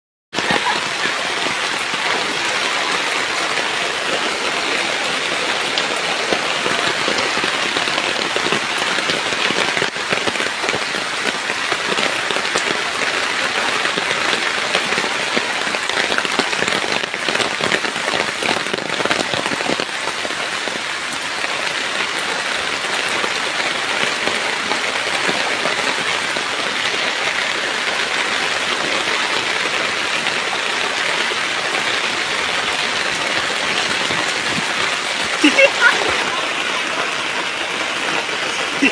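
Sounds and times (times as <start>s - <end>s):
heavy rain falling: 0.3s - 38.9s.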